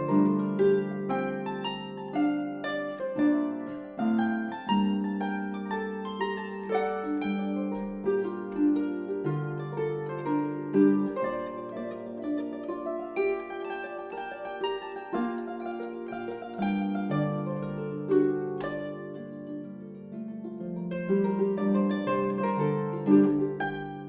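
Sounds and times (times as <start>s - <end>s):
harp-like plucked string melody: 0.0s - 24.0s.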